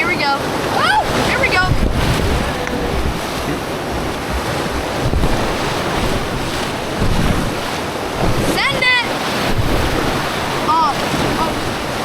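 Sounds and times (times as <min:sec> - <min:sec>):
whitewater rushing: 0:00.0 - 0:12.0
wind buffeting microphone: 0:00.0 - 0:12.0.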